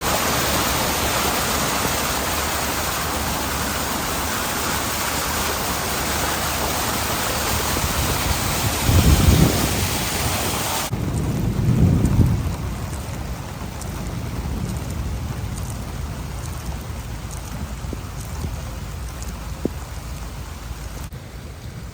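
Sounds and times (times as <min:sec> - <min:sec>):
heavy rain hissing: 0:00.0 - 0:21.9
low rumbles: 0:00.0 - 0:21.9.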